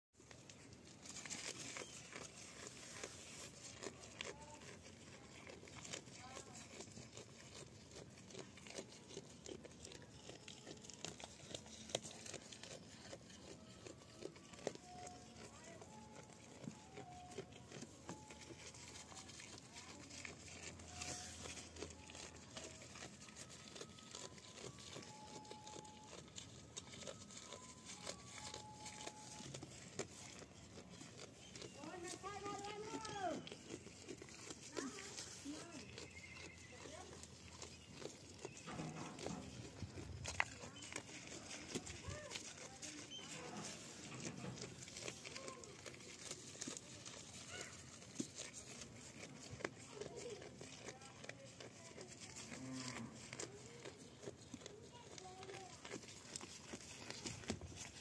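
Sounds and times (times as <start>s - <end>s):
goat chewing leaves: 0.2s - 58.0s.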